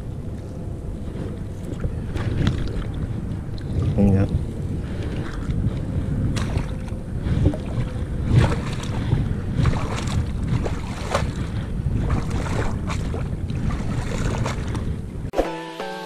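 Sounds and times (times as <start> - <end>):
water splashes: 0.0 - 15.1
wind rumbling on microphone: 0.0 - 15.3
small waves lapping on rocks: 1.1 - 14.9.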